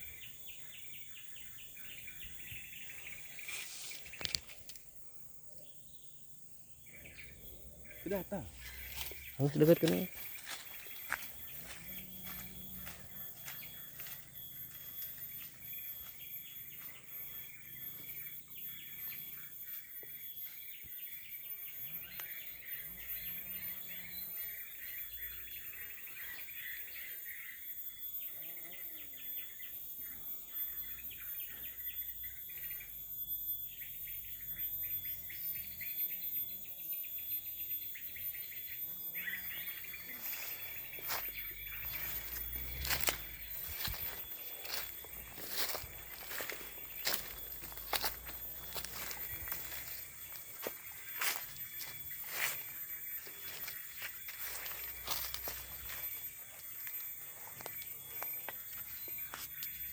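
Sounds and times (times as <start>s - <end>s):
birds calling: 0.0s - 59.9s
insects chirping: 0.0s - 59.9s.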